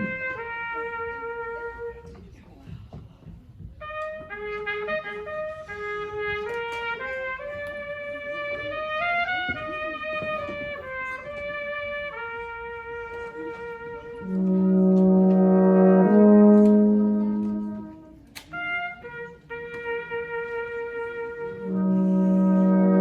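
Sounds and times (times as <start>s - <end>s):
trumpet melody: 0.0s - 2.3s, 3.8s - 23.0s.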